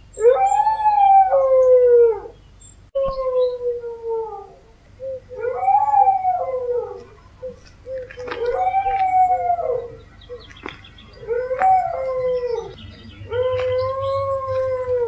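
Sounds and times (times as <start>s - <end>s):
dog howling: 0.2s - 2.3s, 3.0s - 10.5s, 11.1s - 15.0s.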